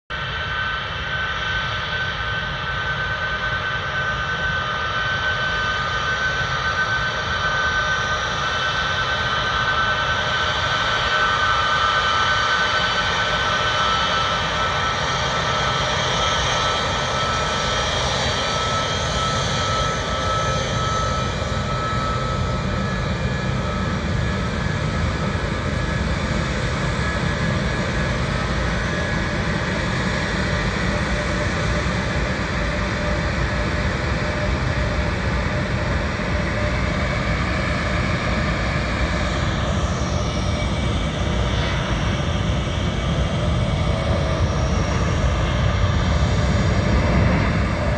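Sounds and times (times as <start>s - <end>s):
jet engines at taxi power: 0.1s - 47.9s.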